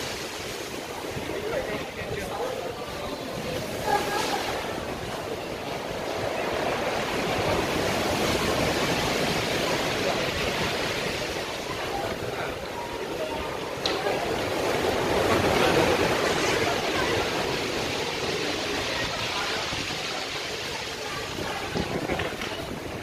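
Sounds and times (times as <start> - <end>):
surf echoing in a cave: 0.0 - 23.0.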